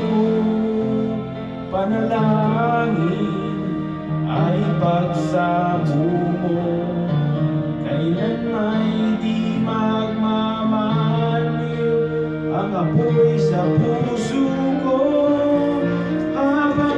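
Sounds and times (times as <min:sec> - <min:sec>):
backing track music: 0:00.0 - 0:16.9
man singing into microphone: 0:00.0 - 0:16.9.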